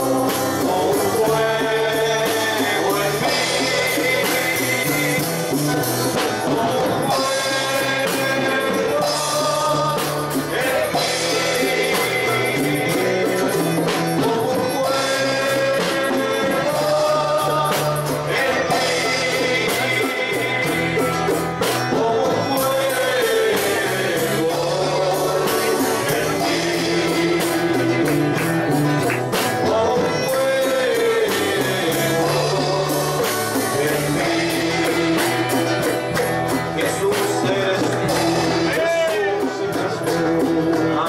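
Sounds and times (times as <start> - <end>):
congregation singing: 0.0 - 41.0
live band accompaniment: 0.0 - 41.0.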